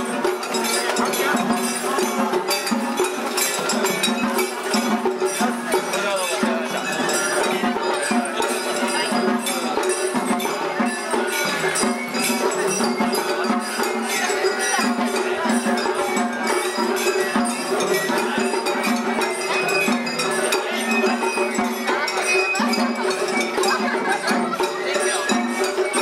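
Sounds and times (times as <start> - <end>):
drums: 0.0 - 26.0.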